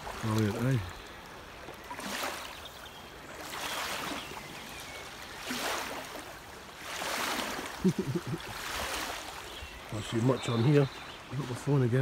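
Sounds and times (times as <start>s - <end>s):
small waves lapping shore: 0.0s - 12.0s.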